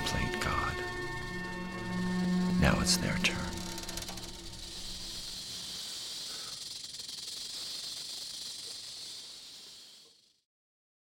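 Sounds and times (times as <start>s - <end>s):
steady high hiss: 0.0s - 10.4s.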